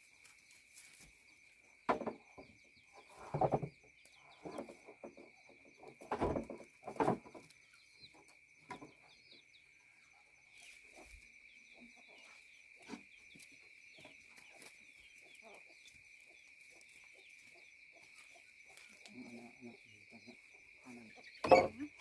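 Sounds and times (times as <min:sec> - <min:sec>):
small birds chirping: 0:00.0 - 0:22.0
chickens clucking: 0:01.6 - 0:22.0.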